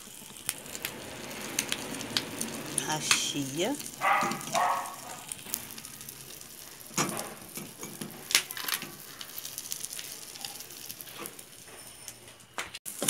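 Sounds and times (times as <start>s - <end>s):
omelette sizzling in pan: 0.0s - 13.0s.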